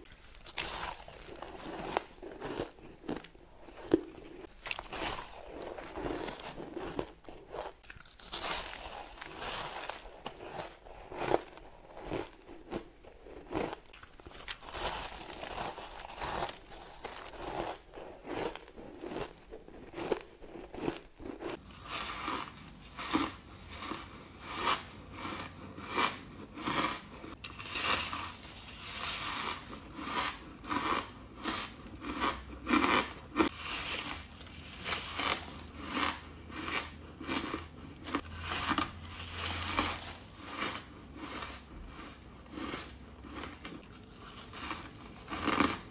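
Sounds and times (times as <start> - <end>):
ice being chewed: 0.0 - 45.9.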